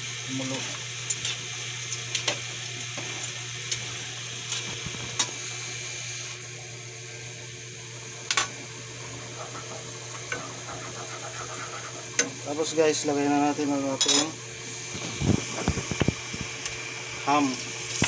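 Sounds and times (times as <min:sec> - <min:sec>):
garlic and onion sizzling: 0:00.0 - 0:18.0.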